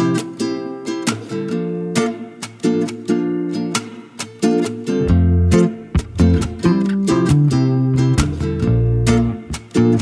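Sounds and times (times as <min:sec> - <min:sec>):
plucked guitar-like chords: 0:00.0 - 0:10.0.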